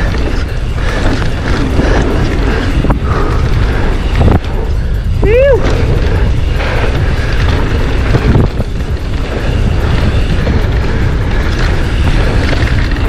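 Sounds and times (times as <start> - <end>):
bike tyres rolling on dirt: 0.0 - 13.0
wind buffeting microphone: 0.0 - 13.0.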